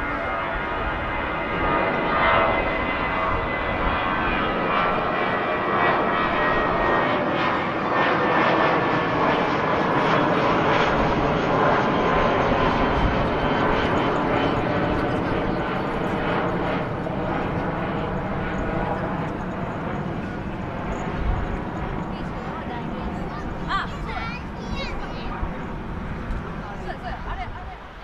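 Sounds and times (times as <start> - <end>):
jet airliner climbing overhead: 0.0 - 28.0.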